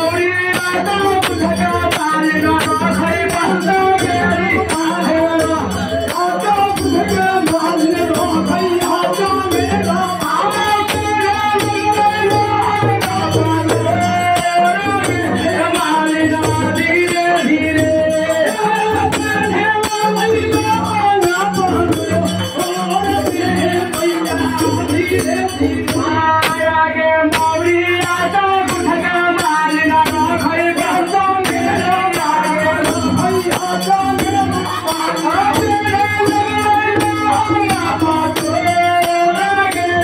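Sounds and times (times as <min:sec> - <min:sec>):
rhythmic percussion beat: 0:00.0 - 0:40.0.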